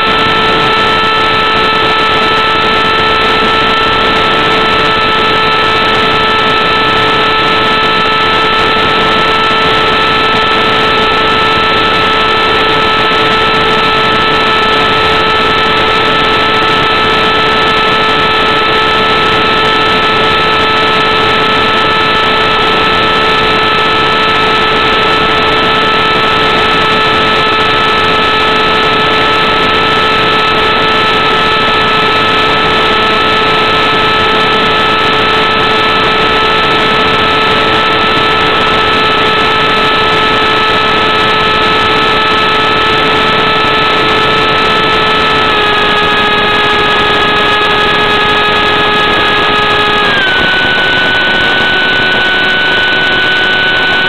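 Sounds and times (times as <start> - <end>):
electric motor and propeller humming: 0.0 - 54.0.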